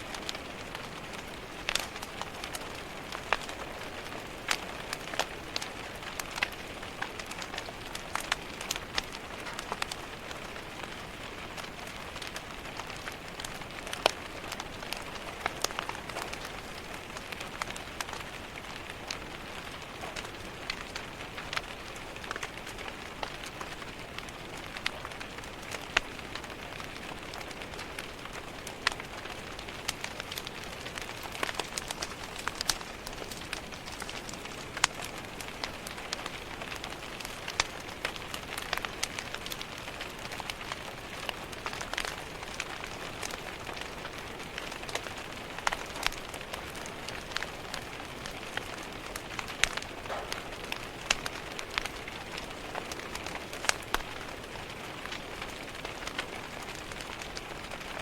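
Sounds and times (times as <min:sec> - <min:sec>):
rain pattering on a window: 0:00.0 - 0:58.0
wood fire crackling: 0:00.0 - 0:58.0.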